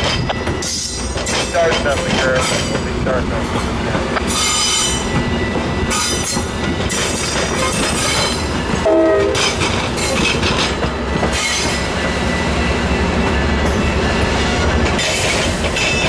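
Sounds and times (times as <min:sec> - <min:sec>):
wheels clicking over rail joints: 0:00.0 - 0:12.2, 0:14.7 - 0:16.0
train wheels rumbling on rails: 0:00.0 - 0:16.0.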